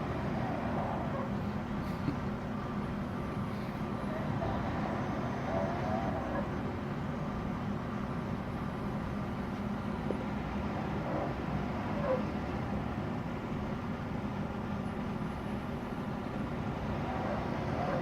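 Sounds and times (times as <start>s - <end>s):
large vehicle engine humming: 0.0s - 18.0s.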